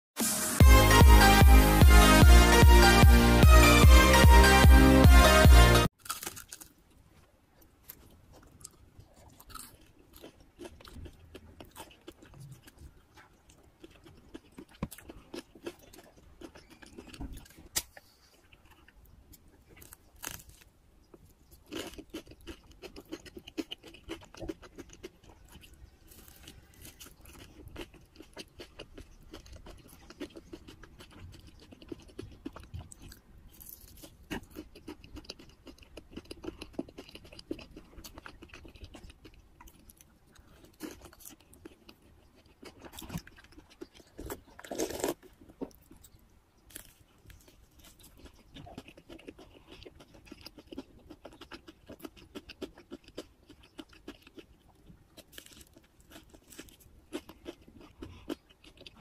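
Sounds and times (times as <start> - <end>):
crunching cheese stick: 5.9 - 7.0, 7.6 - 59.0.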